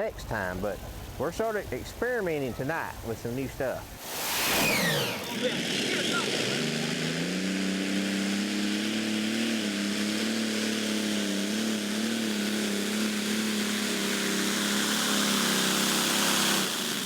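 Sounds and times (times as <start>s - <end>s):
tractor engine running: 0.0s - 4.0s, 5.0s - 17.0s
wide hiss: 0.0s - 17.0s.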